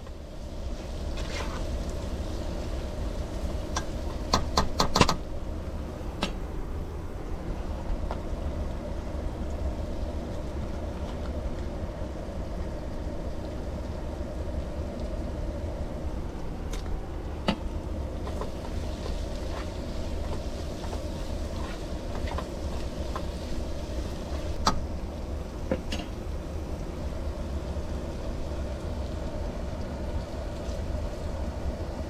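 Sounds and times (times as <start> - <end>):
steady low rumble: 5.2 - 32.0.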